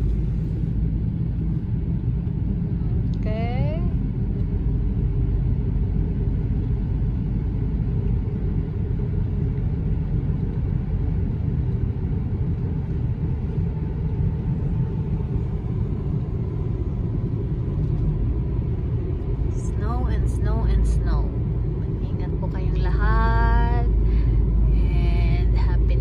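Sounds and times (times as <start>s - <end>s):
car driving heard from inside: 0.0s - 26.0s.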